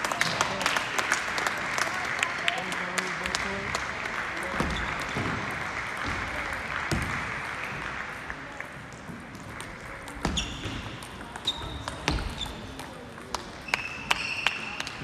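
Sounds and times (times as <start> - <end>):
sports hall murmur: 0.0 - 15.0.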